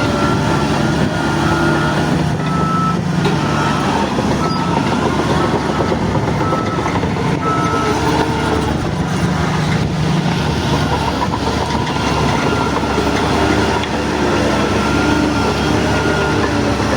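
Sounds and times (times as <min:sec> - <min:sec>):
bulldozer diesel engine running: 0:00.0 - 0:16.9.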